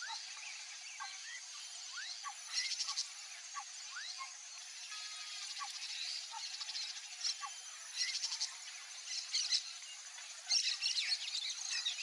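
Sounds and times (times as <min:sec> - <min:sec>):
small birds chirping: 0:00.0 - 0:12.0
steady high-pitched hiss: 0:00.0 - 0:12.0.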